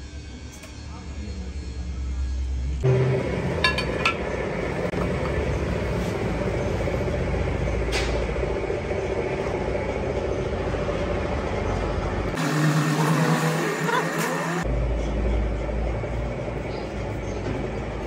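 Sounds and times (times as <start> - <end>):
rumbling workshop noise: 0.0 - 18.0.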